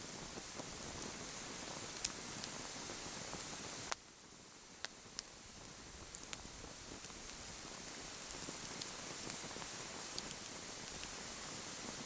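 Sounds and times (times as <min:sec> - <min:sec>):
campfire crackling: 0:00.2 - 0:04.0, 0:04.7 - 0:11.7.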